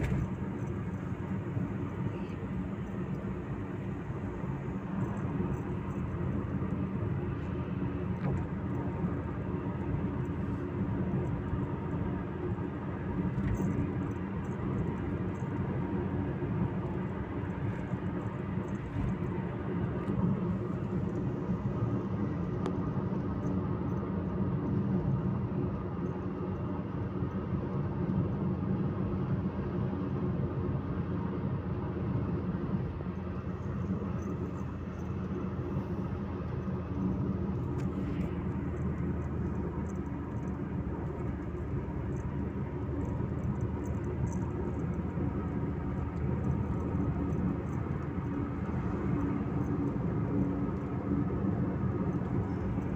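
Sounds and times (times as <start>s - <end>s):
car road and engine noise: 0.0s - 52.9s.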